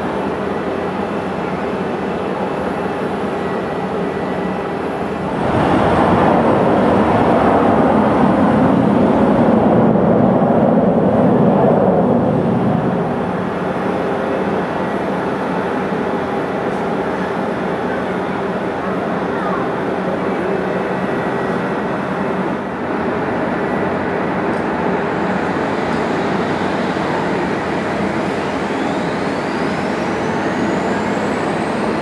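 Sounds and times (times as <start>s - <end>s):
jet turbine noise: 0.0s - 32.0s.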